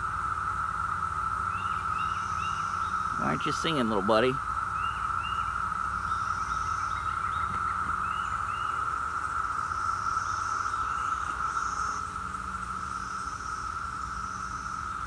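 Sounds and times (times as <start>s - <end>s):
cicadas chorus drone: 0.0s - 15.0s.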